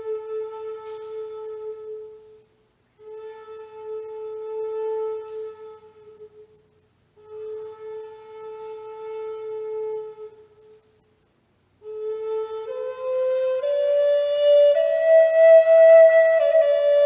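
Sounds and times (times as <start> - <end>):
flute playing long held notes: 0.0 - 2.4, 3.0 - 6.6, 7.2 - 10.8, 11.8 - 17.0.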